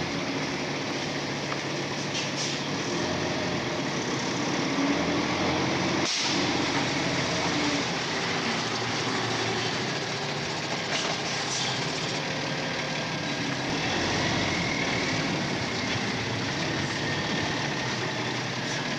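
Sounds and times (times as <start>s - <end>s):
truck diesel engine running: 0.0s - 18.9s.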